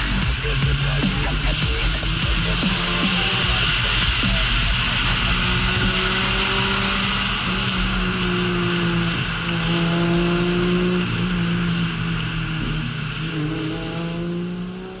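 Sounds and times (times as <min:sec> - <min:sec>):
car engine running: 0:00.0 - 0:15.0
tyre and road noise: 0:00.0 - 0:15.0.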